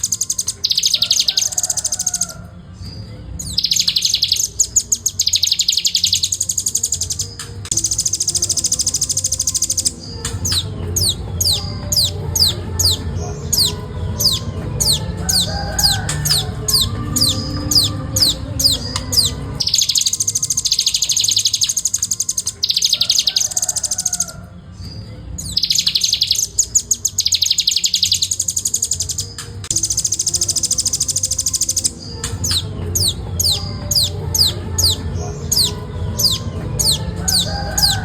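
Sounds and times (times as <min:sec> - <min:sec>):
bird singing rapid trills: 0:00.0 - 0:38.0.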